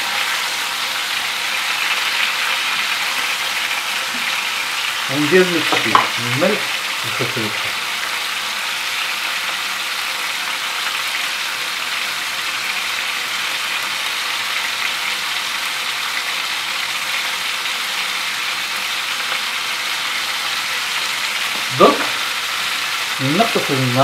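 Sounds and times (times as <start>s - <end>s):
meat sizzling in a frying pan: 0.0s - 24.0s.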